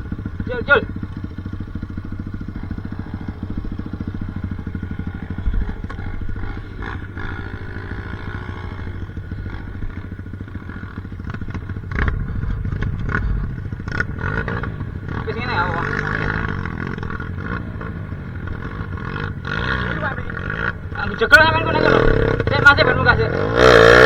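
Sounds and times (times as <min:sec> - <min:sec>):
dirt bike engine running: 0:00.0 - 0:24.0.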